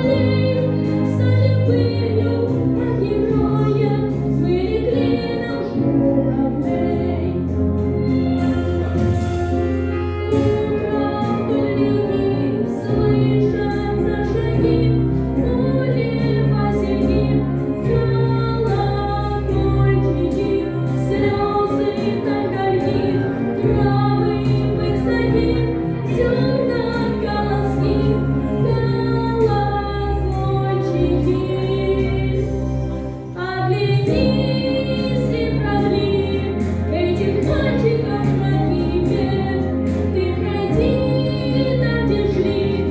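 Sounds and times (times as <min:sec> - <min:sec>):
instrumental accompaniment with bass: 0:00.0 - 0:42.9.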